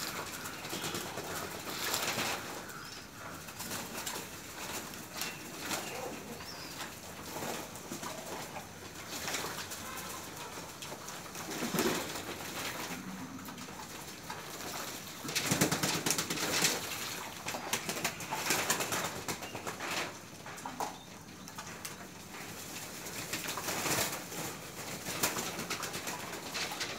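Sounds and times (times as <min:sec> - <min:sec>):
wings flapping: 0:00.0 - 0:20.2, 0:22.4 - 0:26.9
pigeons cooing: 0:00.0 - 0:26.9.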